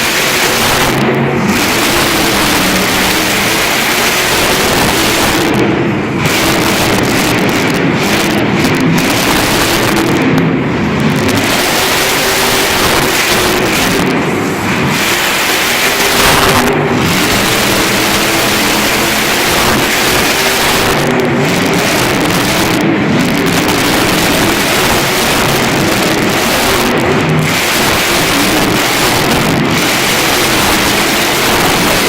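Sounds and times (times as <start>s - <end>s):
monster truck engine roaring: 0.0s - 32.0s.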